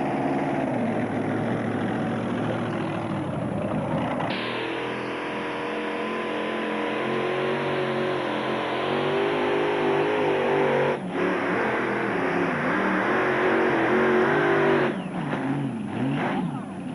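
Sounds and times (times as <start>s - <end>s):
tractor engine running hard: 0.0s - 16.9s.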